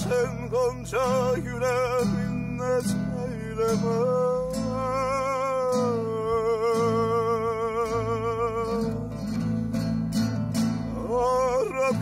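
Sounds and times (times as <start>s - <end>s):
person singing with vibrato: 0.0s - 9.2s, 10.8s - 12.0s.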